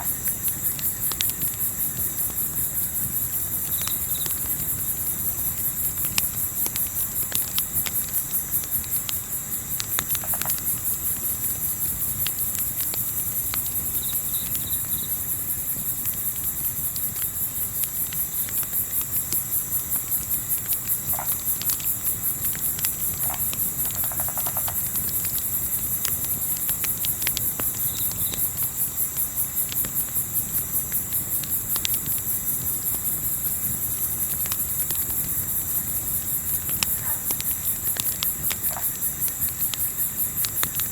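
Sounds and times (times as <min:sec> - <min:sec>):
campfire crackling: 0:00.0 - 0:40.9
crickets chirring: 0:00.0 - 0:40.9.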